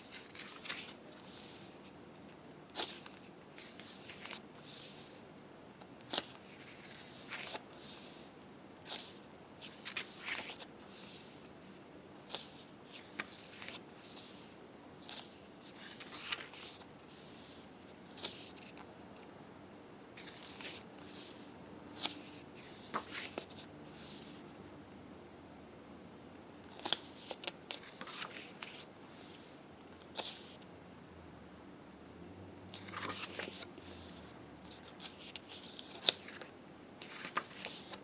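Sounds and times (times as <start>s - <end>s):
book pages turning: 0.0s - 5.2s, 5.8s - 18.9s, 20.2s - 24.4s, 26.6s - 30.6s, 32.7s - 38.0s.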